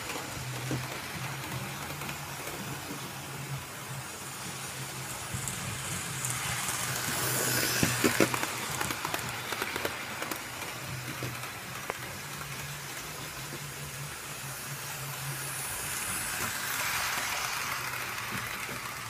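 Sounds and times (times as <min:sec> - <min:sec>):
model train motor hum: 0:00.0 - 0:19.0
steady hiss: 0:00.0 - 0:19.0.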